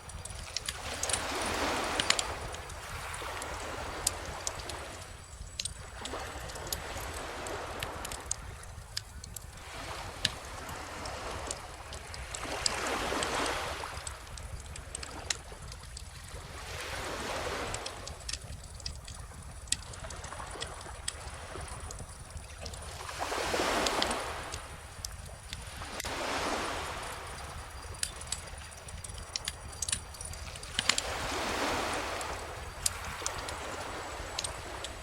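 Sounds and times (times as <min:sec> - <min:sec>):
calm ocean waves washing in: 0:00.0 - 0:15.3, 0:16.2 - 0:35.0
bonfire crackling and popping: 0:00.0 - 0:35.0.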